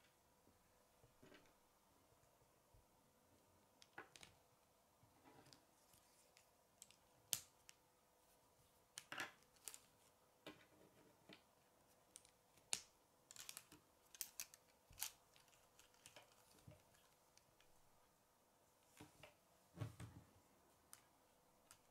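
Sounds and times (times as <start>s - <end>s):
faint steady hum: 0.0s - 21.9s.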